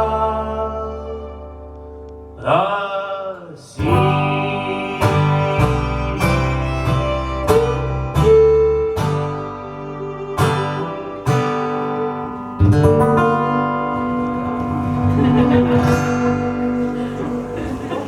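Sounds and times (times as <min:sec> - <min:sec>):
live folk band playing: 0:00.0 - 0:02.4, 0:03.8 - 0:18.0
acoustic guitar strumming: 0:00.0 - 0:18.0.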